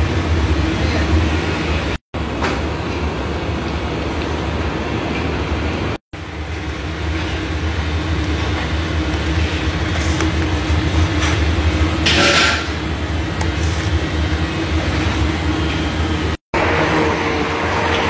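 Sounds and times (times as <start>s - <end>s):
machinery rumbling: 0.0s - 18.0s.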